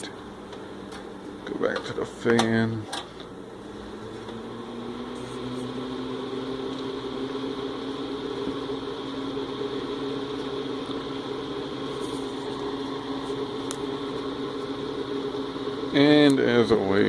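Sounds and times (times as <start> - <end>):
electric heater fan running: 0.0 - 17.0.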